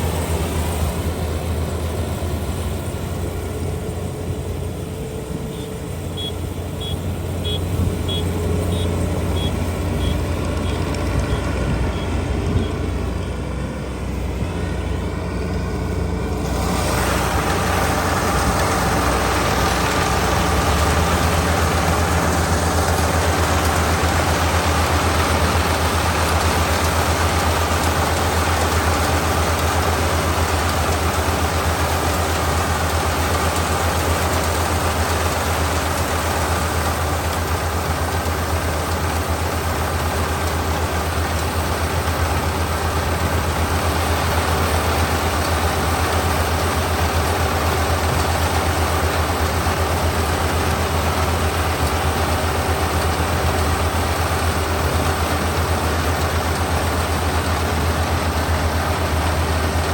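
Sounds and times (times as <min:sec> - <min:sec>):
combine harvester engine running: 0:00.0 - 0:59.9
harvesting machinery rushing: 0:00.0 - 0:59.9.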